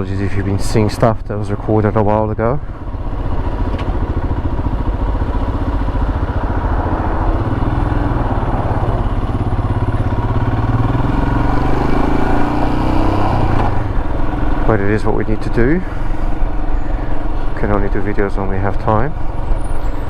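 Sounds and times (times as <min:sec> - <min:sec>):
motorcycle engine running: 0:00.2 - 0:20.0.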